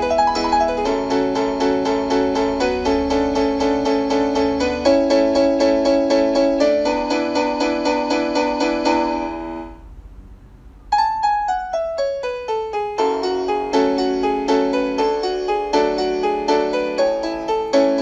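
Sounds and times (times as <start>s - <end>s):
piano music: 0.0s - 10.0s, 10.8s - 18.0s.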